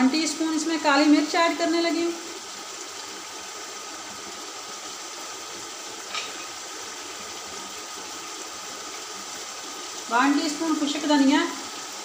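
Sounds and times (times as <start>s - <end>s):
food frying in oil: 0.0s - 12.0s.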